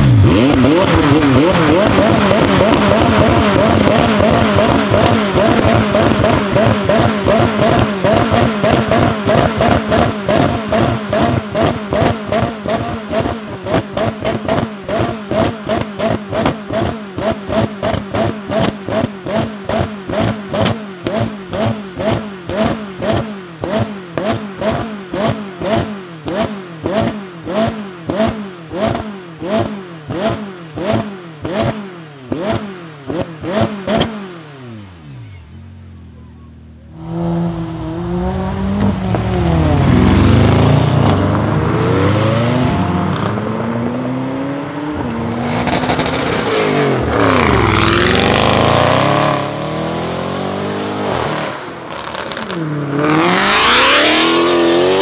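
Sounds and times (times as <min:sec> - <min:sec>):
sports car engine revving: 0:00.0 - 0:55.0.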